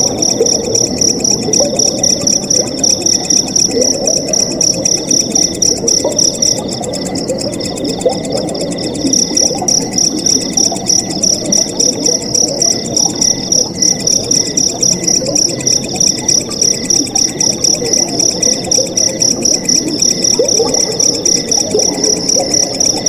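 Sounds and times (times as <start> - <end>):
crickets chirping: 0.0 - 23.0
flowing water gurgling: 0.0 - 23.0
insect calls pulsing: 0.0 - 23.0.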